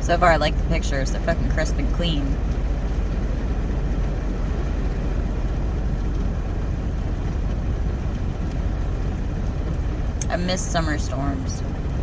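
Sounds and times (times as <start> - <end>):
deep rumble: 0.0 - 12.0
steady rain hissing: 0.0 - 12.0.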